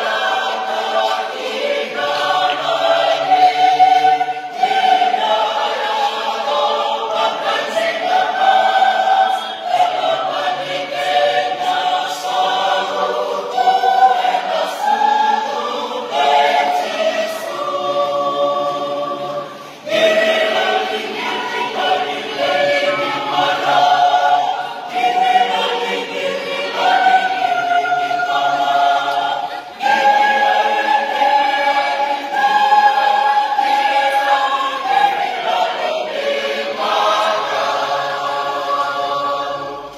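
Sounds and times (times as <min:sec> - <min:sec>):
mixed choir singing a hymn: 0:00.0 - 0:39.9.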